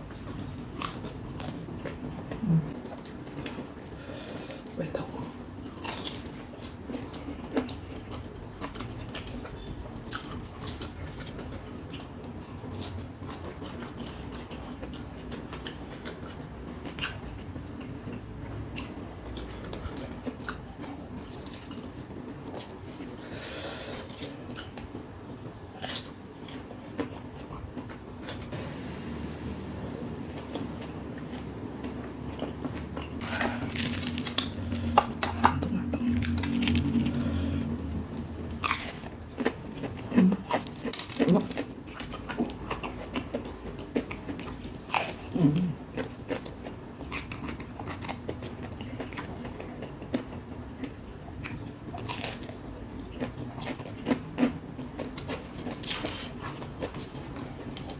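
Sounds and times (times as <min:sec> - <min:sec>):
chewing crunchy snacks: 0:00.0 - 0:28.5, 0:29.9 - 0:57.9
steady low hum: 0:00.0 - 0:51.9.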